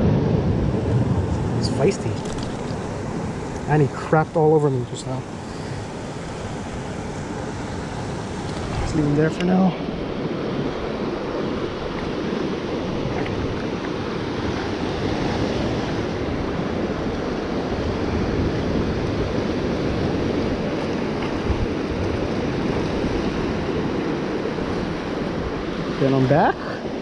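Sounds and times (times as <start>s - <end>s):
surf washing against rocks: 0.0s - 27.0s
wind buffeting microphone: 0.0s - 27.0s.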